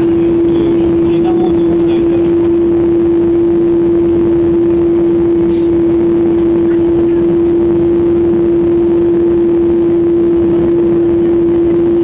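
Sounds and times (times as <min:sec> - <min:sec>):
jet engines idling rumble: 0:00.0 - 0:12.0
steady hum: 0:00.0 - 0:12.0.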